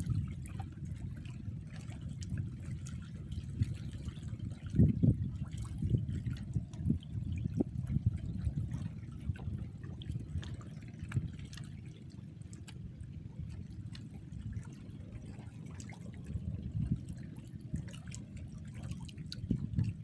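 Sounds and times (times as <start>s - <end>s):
small clicks and drips: 0.0s - 20.0s
steady low rumble: 0.0s - 20.0s
water splashing and trickling: 0.0s - 20.0s.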